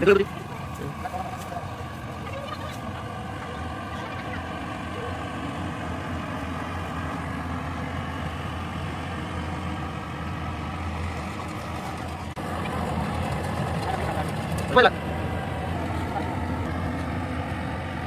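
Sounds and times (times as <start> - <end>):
diesel farm machinery engine droning: 0.0 - 18.0.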